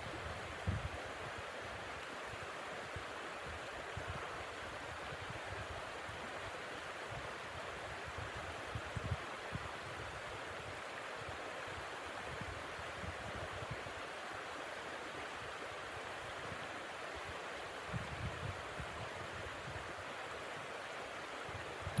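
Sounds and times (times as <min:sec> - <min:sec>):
wind rushing through forest: 0:00.0 - 0:22.0.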